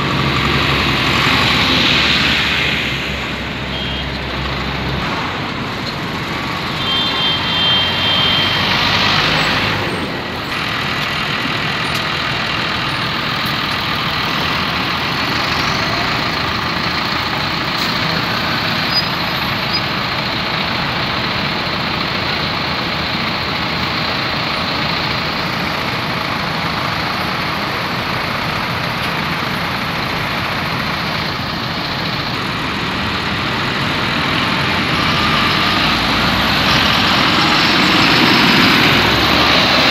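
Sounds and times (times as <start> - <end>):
tractor diesel engines: 0.0 - 39.9
tyre and traffic noise: 0.0 - 39.9.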